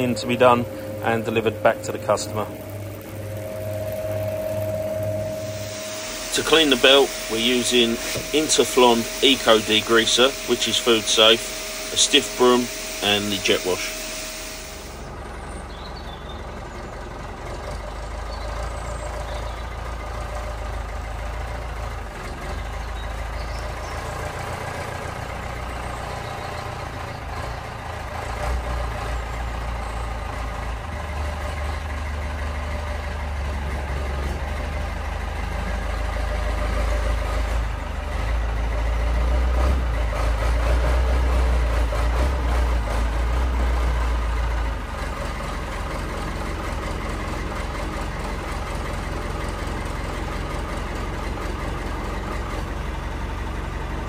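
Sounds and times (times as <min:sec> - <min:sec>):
forklift engine running: 0:00.0 - 0:54.0.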